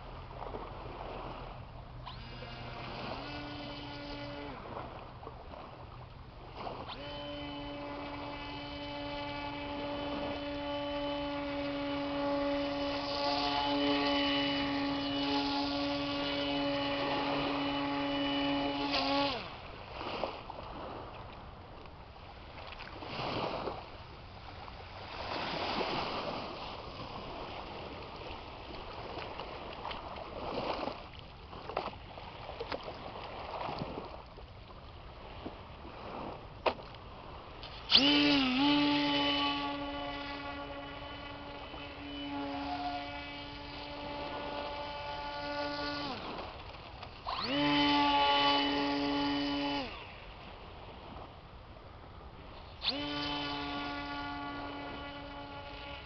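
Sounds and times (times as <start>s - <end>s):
small electric motor whine: 0.0s - 32.1s, 37.1s - 51.7s, 52.3s - 56.0s.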